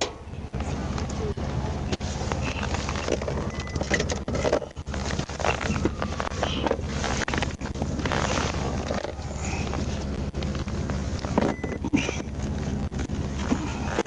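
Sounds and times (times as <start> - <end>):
steady low hum: 0.0 - 14.0
rustles clicks and knocks: 1.9 - 14.0.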